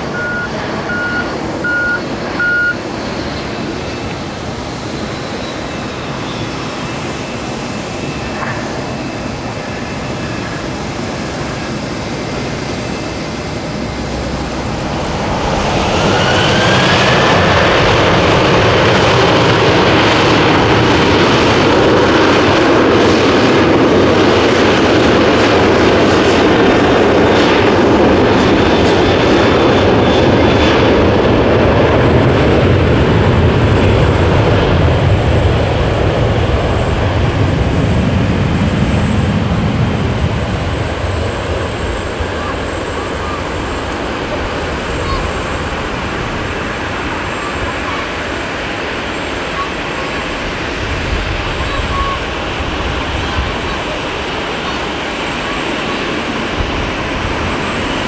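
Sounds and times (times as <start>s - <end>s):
jet engines spooling up: 0.0s - 58.0s.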